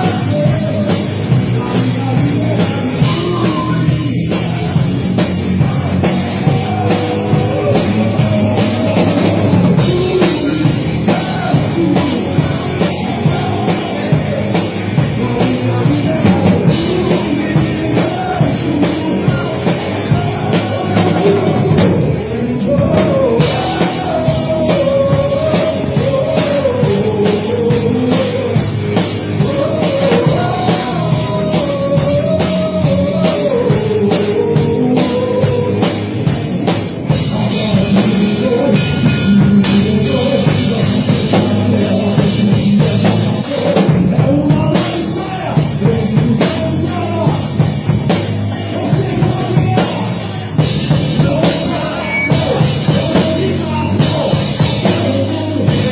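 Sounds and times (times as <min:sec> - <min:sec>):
live band playing rock worship music: 0:00.0 - 0:55.9.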